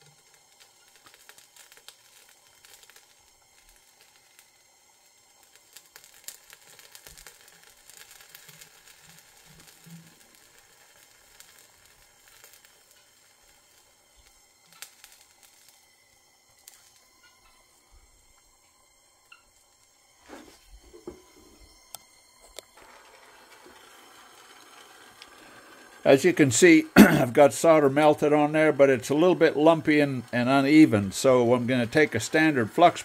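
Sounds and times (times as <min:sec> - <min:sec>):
flux and solder sizzling: 0:00.0 - 0:33.0.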